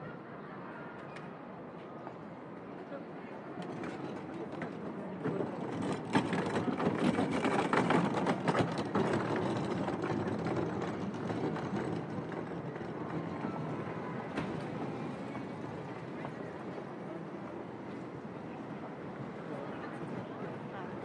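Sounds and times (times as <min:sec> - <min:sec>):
steady street traffic: 0:00.0 - 0:21.0.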